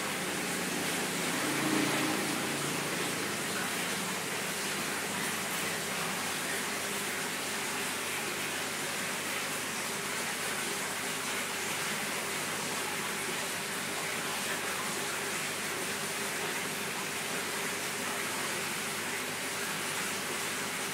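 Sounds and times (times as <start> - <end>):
aquarium water bubbling: 0.0 - 20.9.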